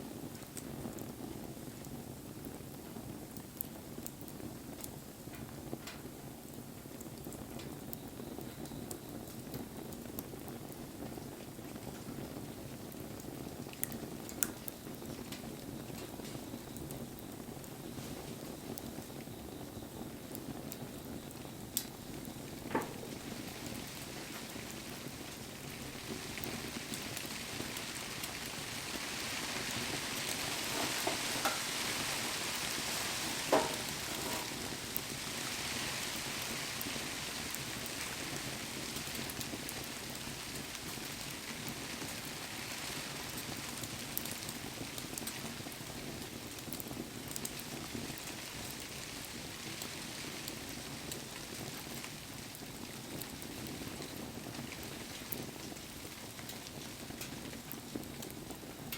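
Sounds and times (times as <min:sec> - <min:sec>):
fire crackling pops: 0:00.0 - 0:58.9
fire hissing: 0:00.0 - 0:58.9
rain falling: 0:08.4 - 0:58.9.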